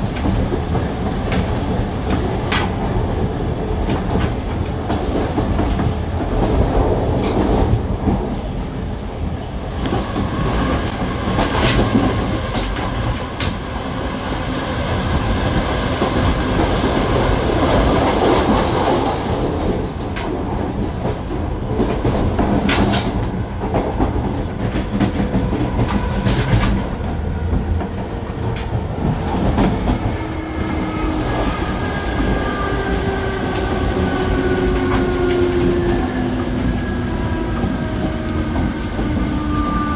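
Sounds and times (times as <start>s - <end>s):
electric train rumbling: 0.0s - 39.9s.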